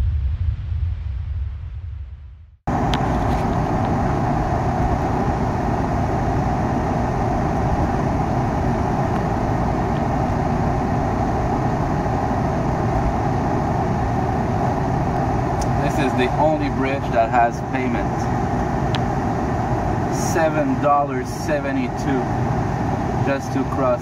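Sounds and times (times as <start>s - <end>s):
low rumble: 0.0s - 24.0s
truck engine and road noise: 2.7s - 24.0s.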